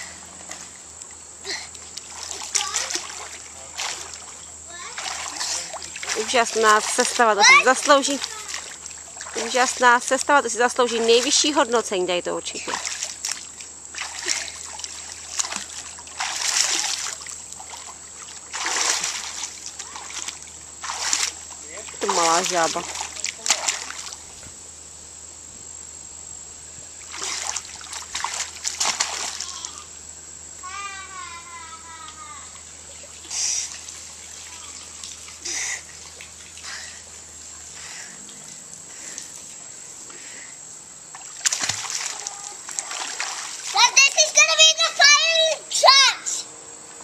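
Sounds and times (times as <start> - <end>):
pool water splashing: 0.0 - 24.6, 26.8 - 47.0.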